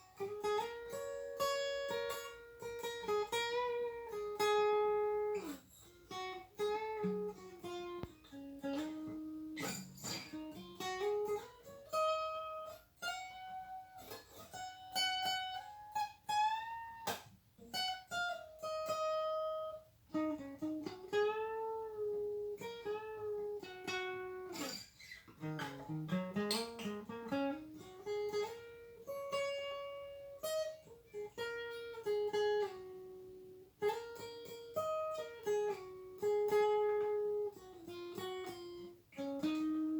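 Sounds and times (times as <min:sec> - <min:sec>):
guitar lead line with bends: 0:00.0 - 0:39.9.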